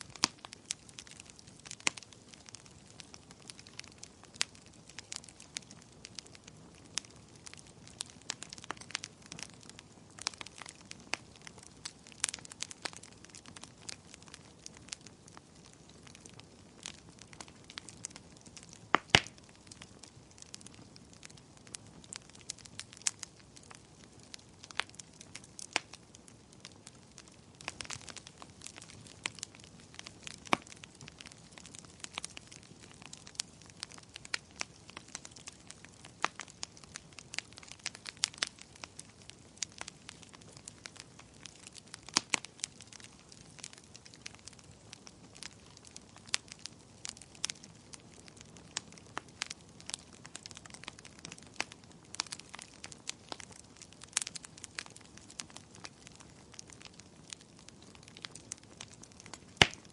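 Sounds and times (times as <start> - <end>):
faint steady hiss: 0.0 - 59.9
wood fire crackling: 0.0 - 59.9.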